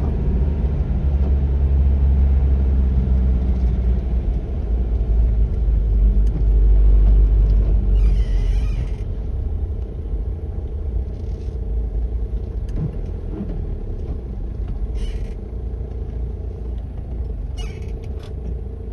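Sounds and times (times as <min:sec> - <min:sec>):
car driving rumble: 0:00.0 - 0:18.9.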